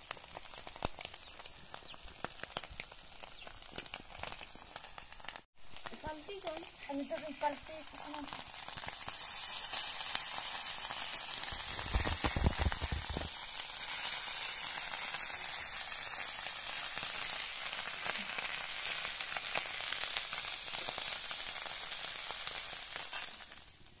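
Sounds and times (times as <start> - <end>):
fish sizzling in a pan: 0.0 - 24.0.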